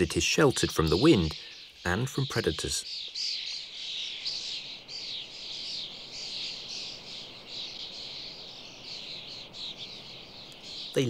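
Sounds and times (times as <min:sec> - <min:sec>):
starling flock chattering: 0:00.0 - 0:11.0.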